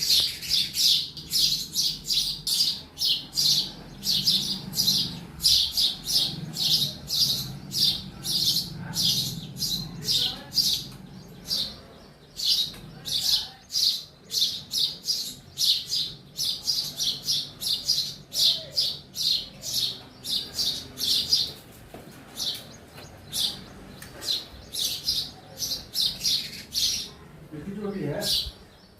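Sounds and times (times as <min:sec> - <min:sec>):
sparrow chirping: 0:00.0 - 0:28.9.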